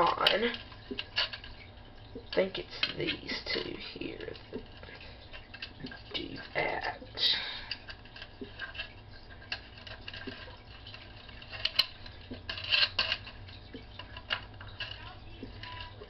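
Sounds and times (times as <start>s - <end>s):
small wires clicking and rattling: 0.0s - 16.0s.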